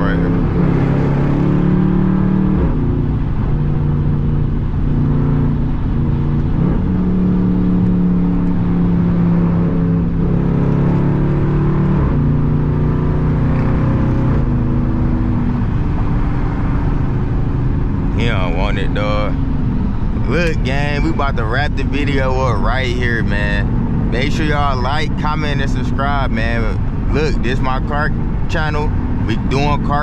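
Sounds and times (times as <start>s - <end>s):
loud engine exhaust drone: 0.0s - 30.0s.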